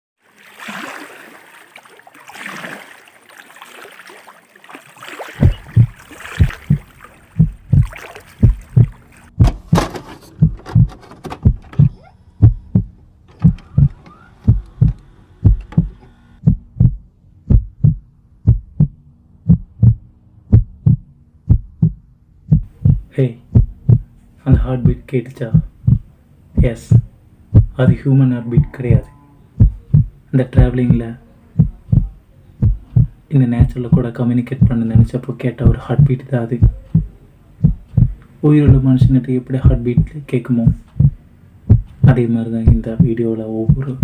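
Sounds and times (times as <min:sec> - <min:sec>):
heartbeat thumps: 0:05.4 - 0:44.0.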